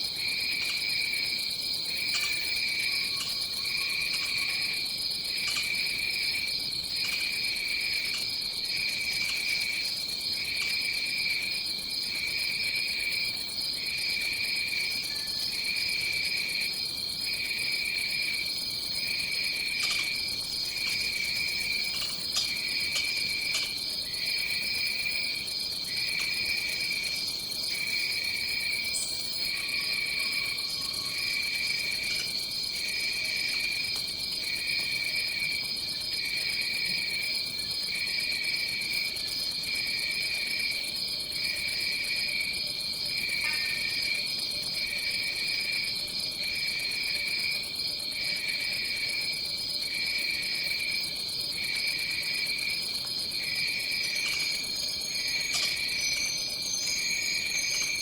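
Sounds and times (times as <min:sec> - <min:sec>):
lower pulsing insect trill: 0:00.0 - 0:58.0
high-pitched insect trill: 0:00.3 - 0:58.0.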